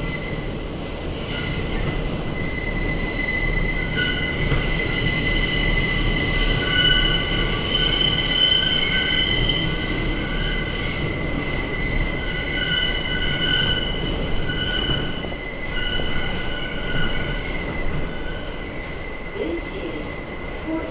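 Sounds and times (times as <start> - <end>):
low rumble of running train: 0.0 - 20.9
train wheels screeching on rails: 0.0 - 20.9.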